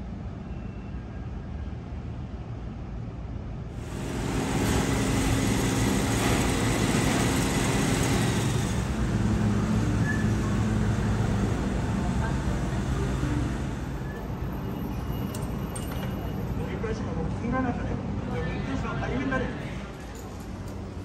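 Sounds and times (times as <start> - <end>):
tram rolling on track: 1.4 - 21.0.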